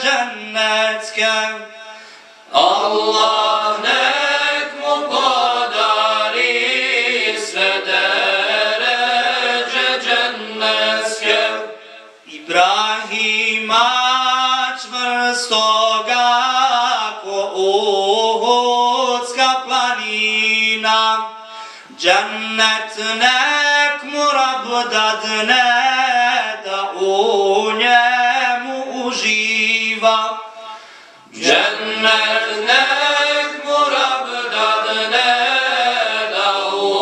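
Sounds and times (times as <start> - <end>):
men singing a cappella hymn: 0.0 - 37.0.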